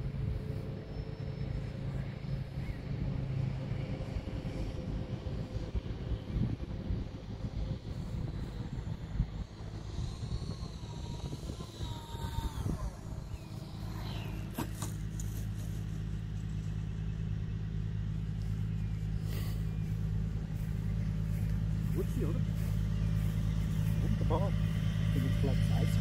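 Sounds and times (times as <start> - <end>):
model aircraft engine whine: 0.0 - 26.0
steady low hum: 0.0 - 26.0.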